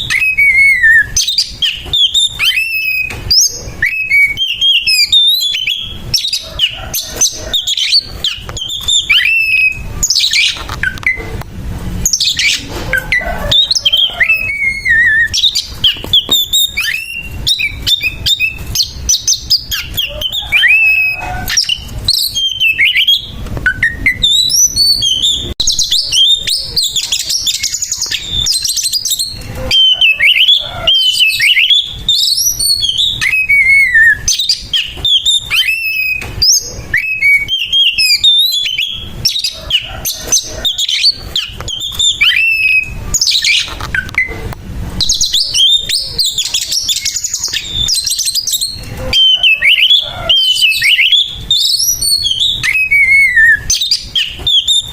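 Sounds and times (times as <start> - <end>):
bird singing varied whistles: 0.0 - 11.3, 12.0 - 44.4, 45.0 - 54.9.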